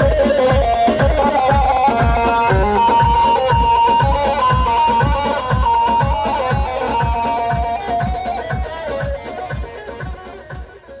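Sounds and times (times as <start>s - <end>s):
dance music with drum beat: 0.0s - 11.0s.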